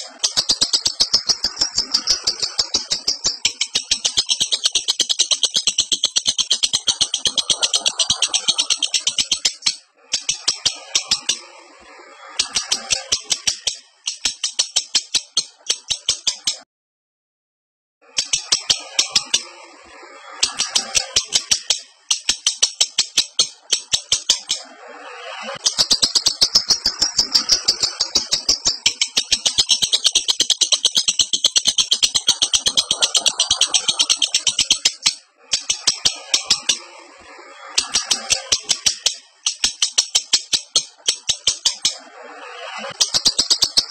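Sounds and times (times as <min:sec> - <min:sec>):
lovebird chattering: 0:00.0 - 0:11.5, 0:12.2 - 0:16.6, 0:18.2 - 0:19.6, 0:20.4 - 0:36.9, 0:37.7 - 0:43.9.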